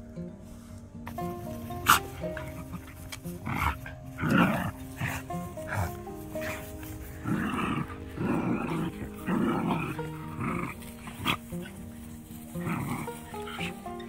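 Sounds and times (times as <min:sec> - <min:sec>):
background music: 0:00.0 - 0:14.0
dogs barking in rough bursts: 0:01.2 - 0:14.0.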